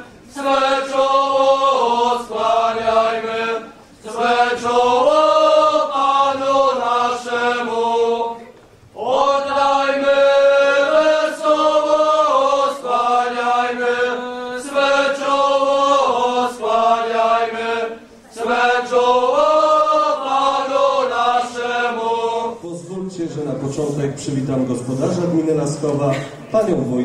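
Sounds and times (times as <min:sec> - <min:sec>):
group singing a carol: 0:00.0 - 0:22.9.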